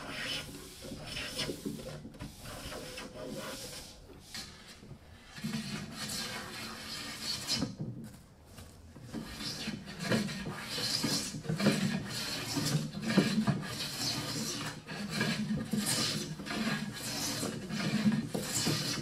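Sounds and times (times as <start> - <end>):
hand tool scraping wood edge: 0.0 - 7.8, 9.0 - 19.0.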